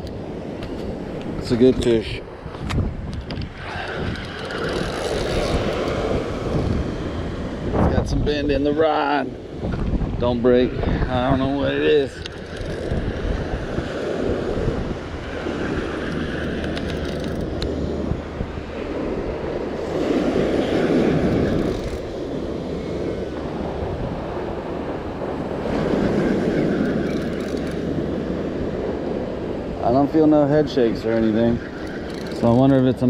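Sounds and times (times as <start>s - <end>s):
waves breaking: 0.0s - 33.0s
wind buffeting microphone: 0.0s - 33.0s.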